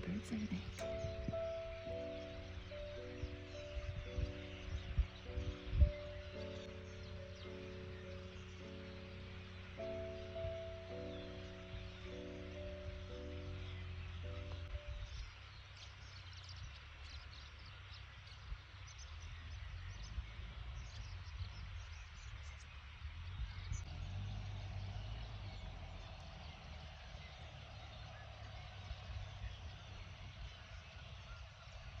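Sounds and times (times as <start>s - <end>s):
flock of birds chirping: 0.0s - 32.0s
wind rumbling on microphone: 0.0s - 32.0s.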